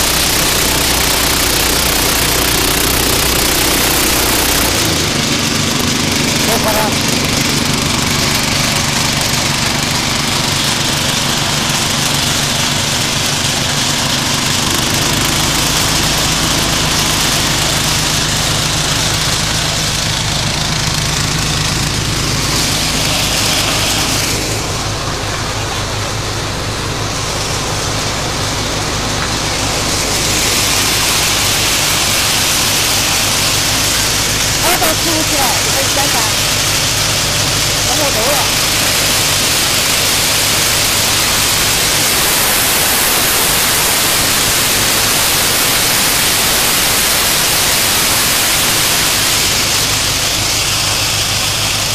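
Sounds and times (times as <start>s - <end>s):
mechanical rattle and hiss: 0.0s - 6.6s, 7.2s - 51.9s
small engine droning: 0.0s - 51.9s.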